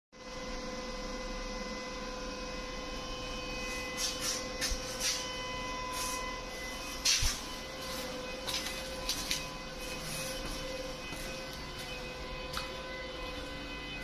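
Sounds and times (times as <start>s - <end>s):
steady machine hum: 0.2s - 14.0s.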